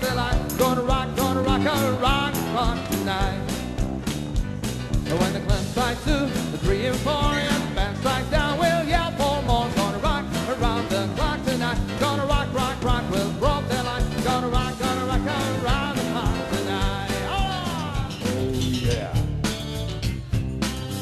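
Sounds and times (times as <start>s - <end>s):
live rock and roll band: 0.0s - 21.0s.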